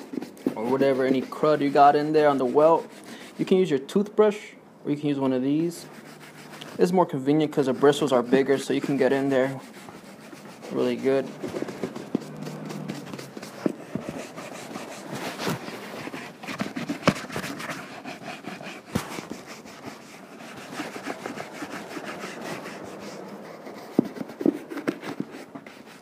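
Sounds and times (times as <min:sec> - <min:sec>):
brush scrubbing leather boot: 0:00.0 - 0:03.6, 0:05.6 - 0:26.0.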